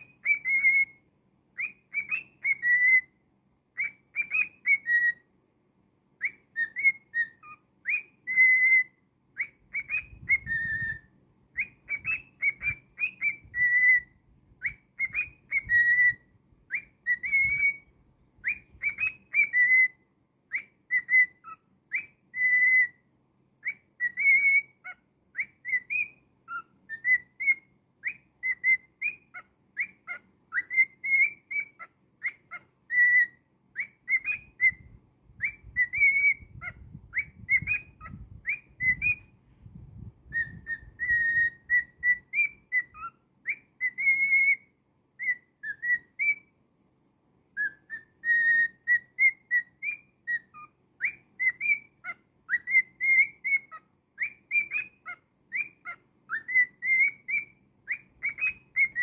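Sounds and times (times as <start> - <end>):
cockatiel whistling: 0.0 - 5.3, 6.2 - 23.0, 23.6 - 39.4, 40.0 - 46.5, 47.5 - 59.0.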